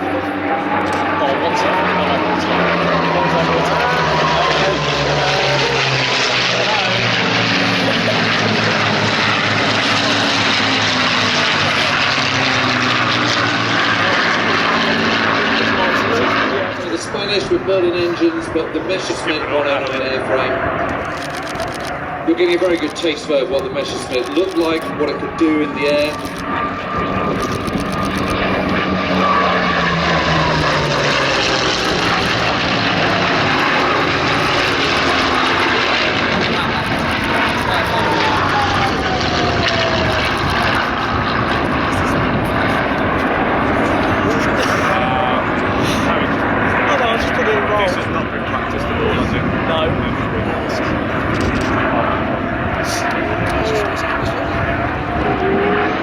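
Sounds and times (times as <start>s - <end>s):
propeller aircraft engine drone: 0.0s - 56.0s.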